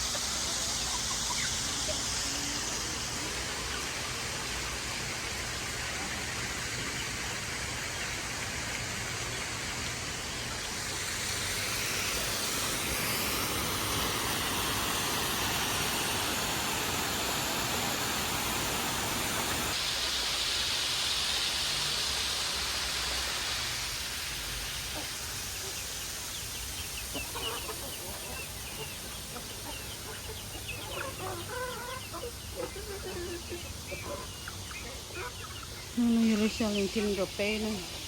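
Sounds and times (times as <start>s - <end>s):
chickens clucking: 0.0s - 19.8s, 24.6s - 38.0s
garden hose spraying water: 0.0s - 38.0s.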